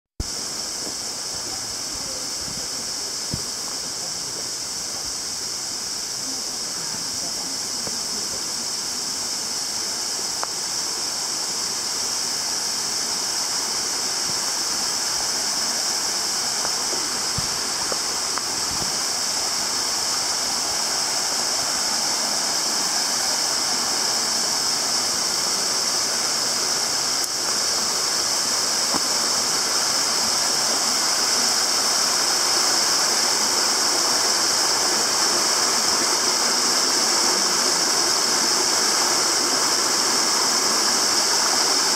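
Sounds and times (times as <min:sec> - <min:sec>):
mountain stream rushing: 0:00.2 - 0:41.9.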